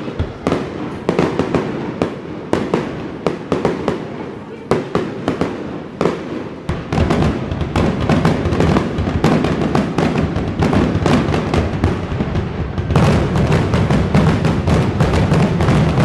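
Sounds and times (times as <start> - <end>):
fireworks booms and crackles: 0.0 - 16.0.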